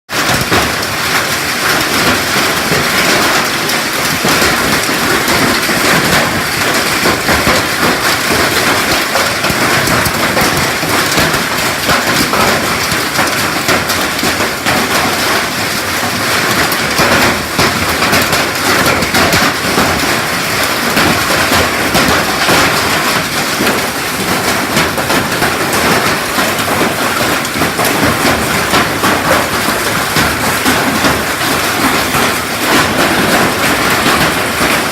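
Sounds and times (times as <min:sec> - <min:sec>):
hailstones pelting down: 0:00.1 - 0:34.9.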